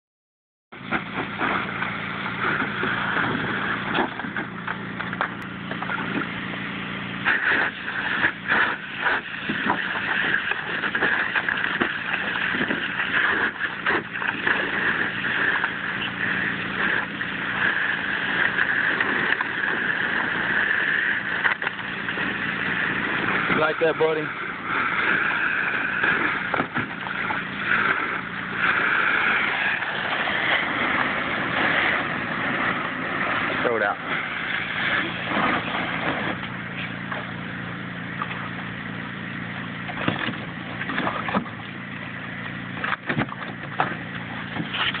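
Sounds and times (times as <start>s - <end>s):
dog splashing through water: 0.8s - 45.0s
hose spraying into water: 0.8s - 45.0s.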